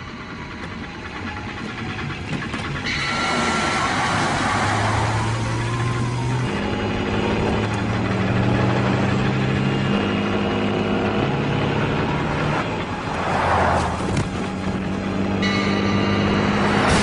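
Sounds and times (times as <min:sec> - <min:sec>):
truck and car engines droning: 0:00.0 - 0:17.0.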